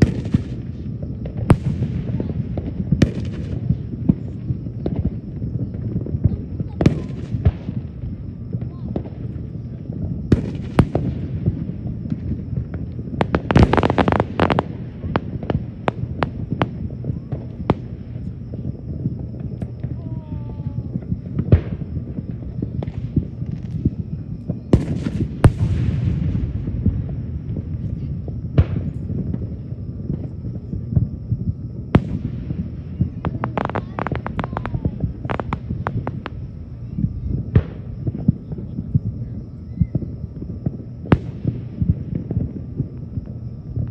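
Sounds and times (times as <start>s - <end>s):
crackling firework pops: 0.0s - 43.9s.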